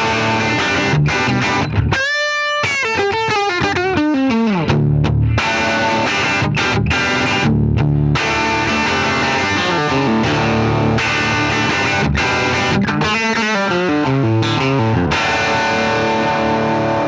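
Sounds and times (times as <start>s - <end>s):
overdriven electric guitar: 0.0s - 17.0s.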